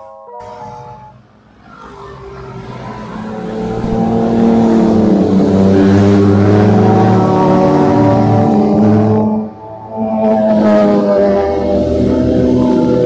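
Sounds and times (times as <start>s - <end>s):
motorcycle engines: 0.4s - 13.0s.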